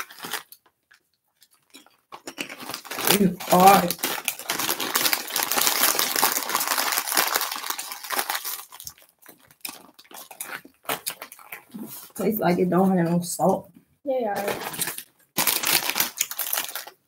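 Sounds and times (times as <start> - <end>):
small clicks and crunches: 0.0 - 11.8, 14.4 - 17.0
plastic chip bag crinkling: 0.0 - 12.1, 14.4 - 17.0.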